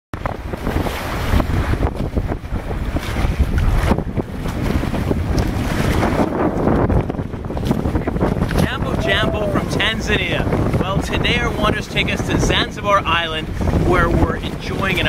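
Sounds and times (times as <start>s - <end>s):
water splashing along hull: 0.2s - 15.0s
wind buffeting microphone: 0.2s - 15.0s.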